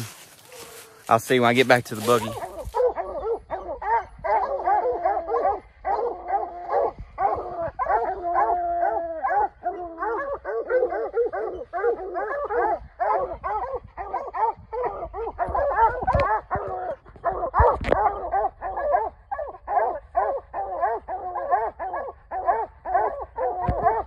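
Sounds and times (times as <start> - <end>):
hounds baying and barking: 0.0 - 24.0.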